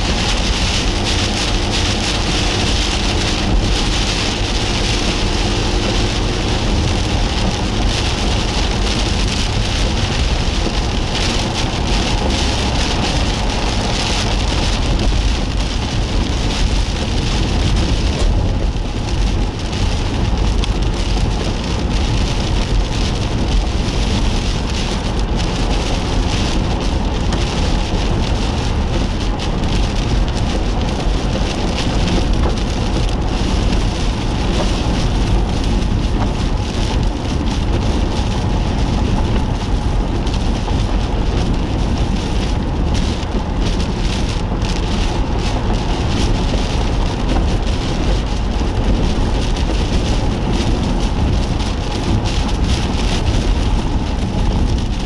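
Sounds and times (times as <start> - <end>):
heavy rain hitting a car: 0.0 - 55.0
low road and engine rumble: 0.0 - 55.0.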